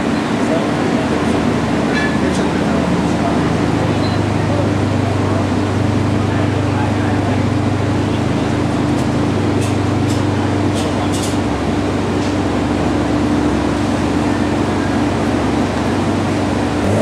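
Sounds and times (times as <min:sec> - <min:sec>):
car engine droning on a dyno: 0:00.0 - 0:17.0.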